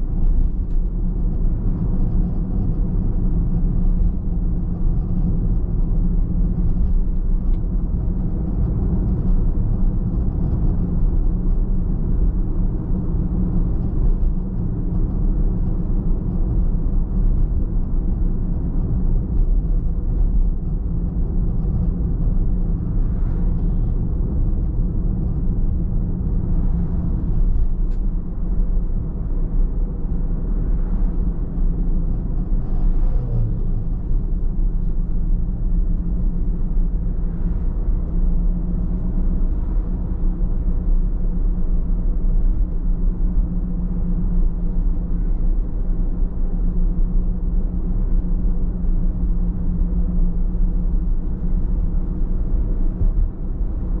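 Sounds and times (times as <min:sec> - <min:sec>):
car driving: 0:00.0 - 0:54.0.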